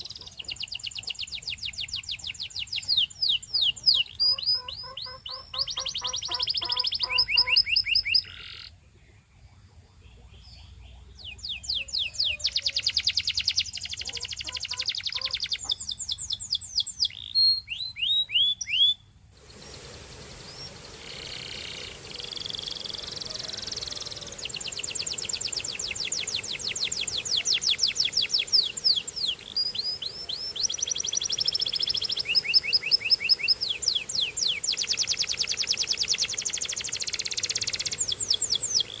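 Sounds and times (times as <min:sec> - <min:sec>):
canary singing trills: 0:00.0 - 0:08.8, 0:09.4 - 0:19.1, 0:20.3 - 0:39.0
steady background hiss: 0:00.0 - 0:39.0.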